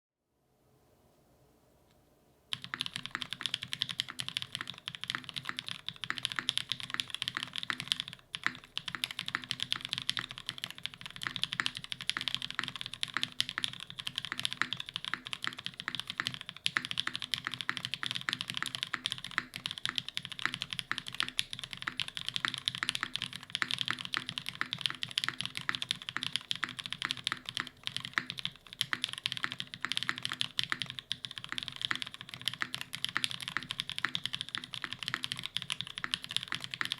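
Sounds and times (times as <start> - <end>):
mechanical keyboard typing: 2.5 - 36.9.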